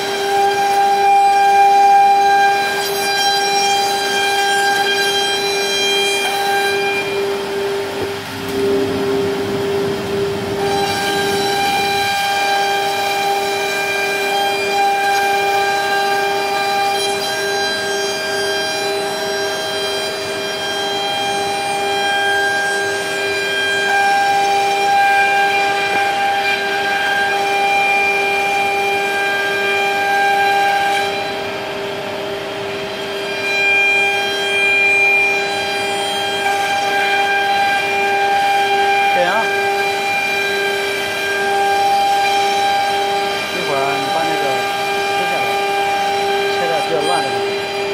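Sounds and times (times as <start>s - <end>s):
router spindle whining: 0.0s - 47.9s.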